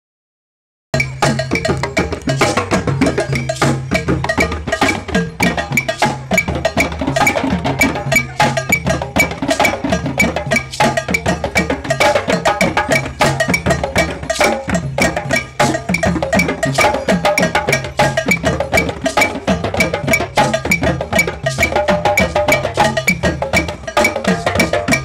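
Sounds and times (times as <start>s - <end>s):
hand drums playing: 1.0s - 25.0s.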